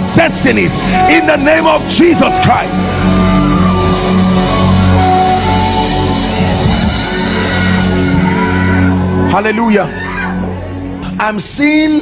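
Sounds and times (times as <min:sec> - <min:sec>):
church band music: 0:00.0 - 0:12.0.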